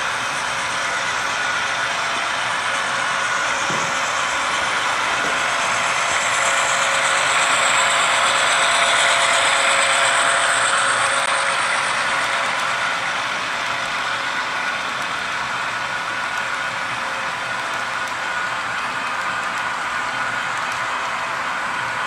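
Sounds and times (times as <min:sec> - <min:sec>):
model train whir and rattle: 0:00.0 - 0:22.0.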